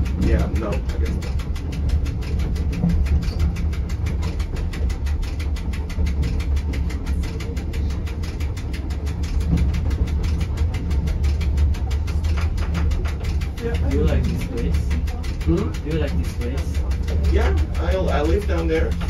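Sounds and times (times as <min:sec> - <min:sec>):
train rumbling with fast ticking: 0:00.0 - 0:19.0.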